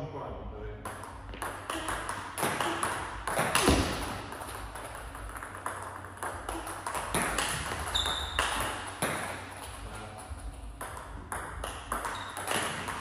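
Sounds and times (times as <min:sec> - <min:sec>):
table tennis ball pings: 0:00.8 - 0:13.0.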